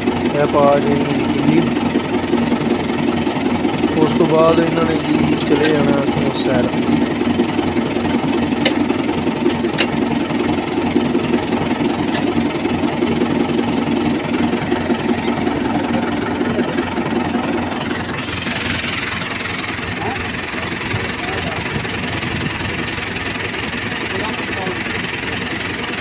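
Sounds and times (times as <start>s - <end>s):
diesel tractor engine idling: 0.0s - 26.0s.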